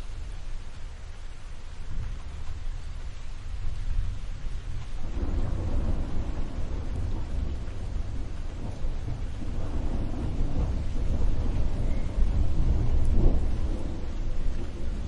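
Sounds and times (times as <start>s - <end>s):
steady rain: 0.0s - 15.0s
rolling thunder: 1.8s - 15.0s.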